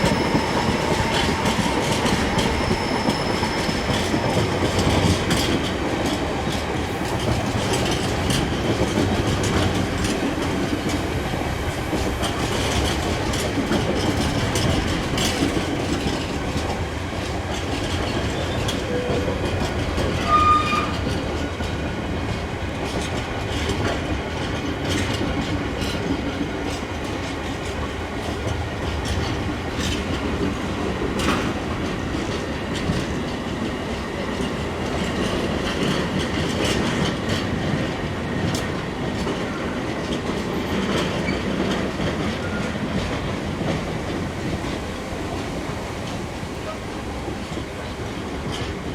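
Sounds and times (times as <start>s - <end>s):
train wheels clattering on rails: 0.0s - 48.9s.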